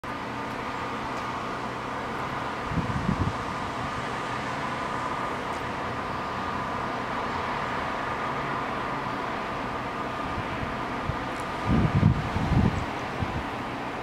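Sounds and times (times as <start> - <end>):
car tyres hissing on wet road: 0.2 - 14.0.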